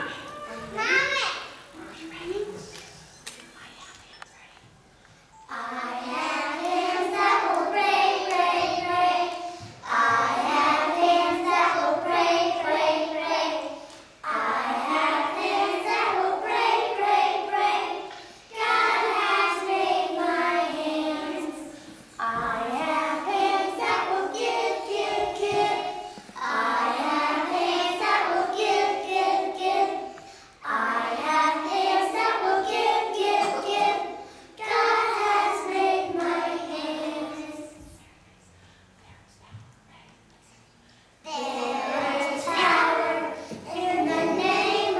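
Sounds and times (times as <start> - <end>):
children singing together: 5.5 - 38.0, 41.3 - 44.9.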